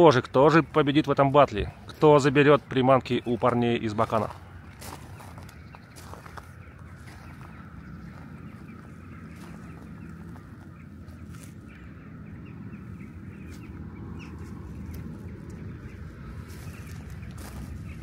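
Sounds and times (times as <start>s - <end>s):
birds chattering: 0.0s - 18.0s
steady low rumble: 0.0s - 18.0s.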